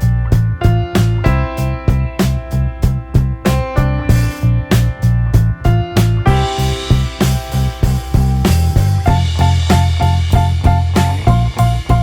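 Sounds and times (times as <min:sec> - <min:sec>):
funky groove music: 0:00.0 - 0:12.0.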